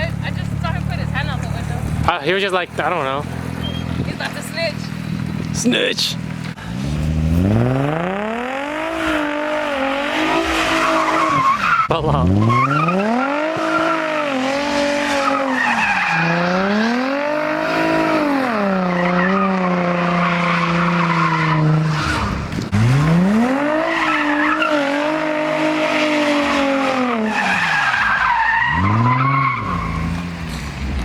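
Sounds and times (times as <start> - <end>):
car engine revving hard: 5.0 - 31.0.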